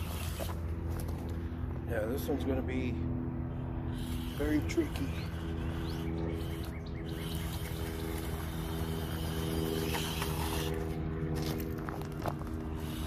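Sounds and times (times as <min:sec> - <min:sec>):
small electric motor and gears whining: 0:00.0 - 0:13.0.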